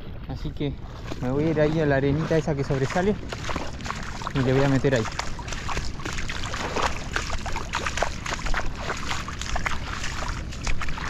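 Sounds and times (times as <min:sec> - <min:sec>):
low steady rumble: 0:00.0 - 0:11.0
person wading through shallow water: 0:00.0 - 0:11.0.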